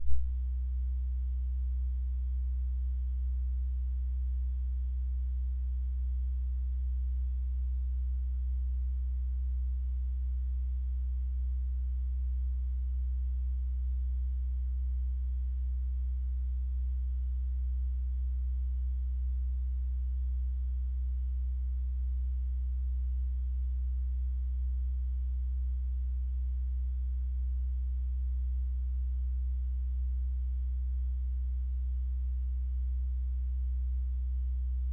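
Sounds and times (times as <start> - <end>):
low-pitched hum: 0.0 - 34.9.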